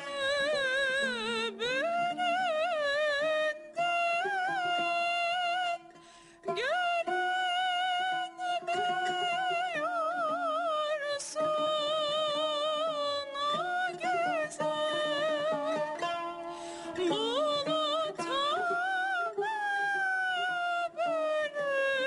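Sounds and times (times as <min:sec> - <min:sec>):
plucked lute accompaniment: 0:00.0 - 0:22.0
woman singing with vibrato: 0:00.0 - 0:22.0.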